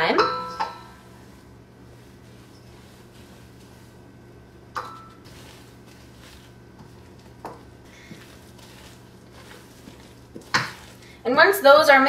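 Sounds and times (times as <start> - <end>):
wooden spoon scraping bowl: 1.0 - 11.6.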